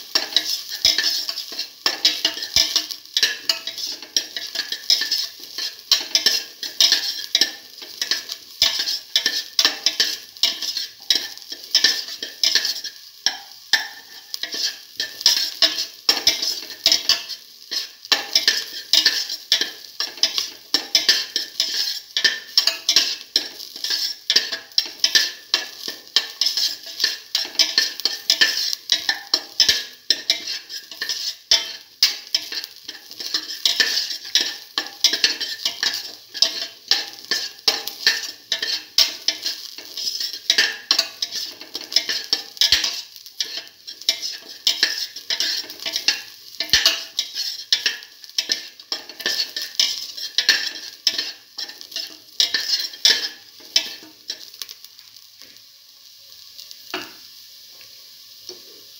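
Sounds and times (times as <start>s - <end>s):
spoon scraping and tapping pan: 0.0s - 55.6s, 56.9s - 57.2s
food sizzling in oil: 0.0s - 58.9s.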